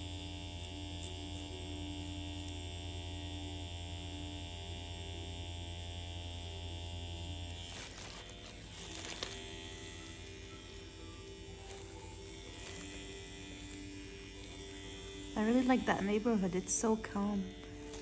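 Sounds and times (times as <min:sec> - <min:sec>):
tattoo pen machine buzzing: 0:00.0 - 0:18.0.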